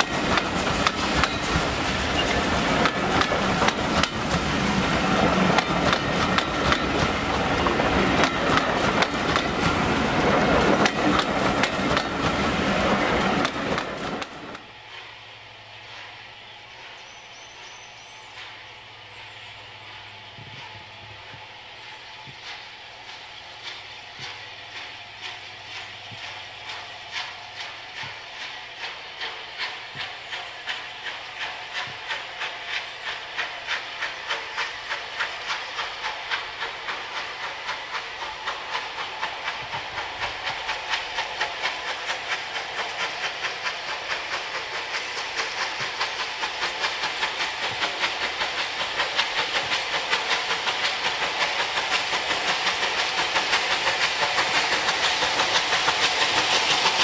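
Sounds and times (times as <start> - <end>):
steady steam hiss: 0.0 - 57.0
steam locomotive exhaust beats: 0.0 - 57.0.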